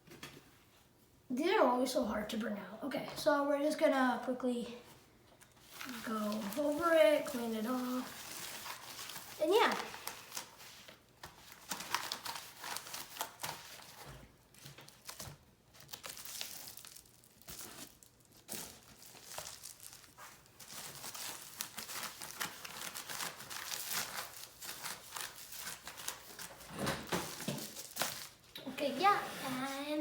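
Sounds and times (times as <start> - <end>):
wipe rustling and crinkling: 5.6 - 30.0.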